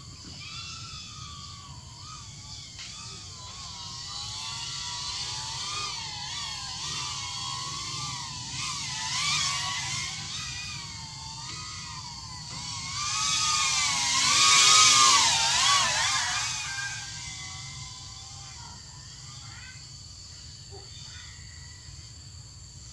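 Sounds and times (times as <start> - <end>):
drone motors whining: 0.0 - 22.9.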